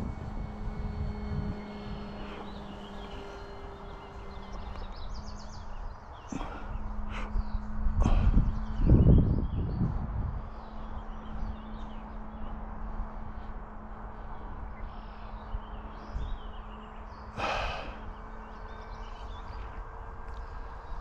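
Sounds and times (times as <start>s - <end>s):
birds chirping: 0.0s - 21.0s
model plane motor humming: 0.0s - 21.0s.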